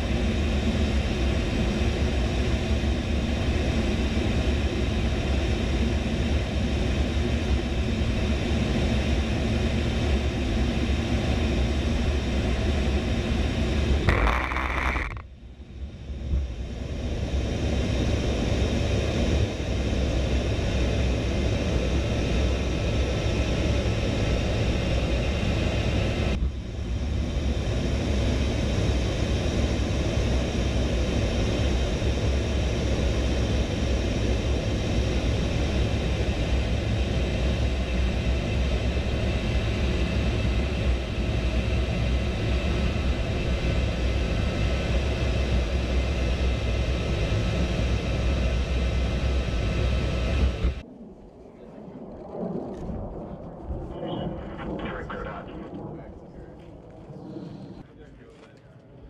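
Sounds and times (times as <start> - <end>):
jet engine rumble in cockpit: 0.0 - 59.0.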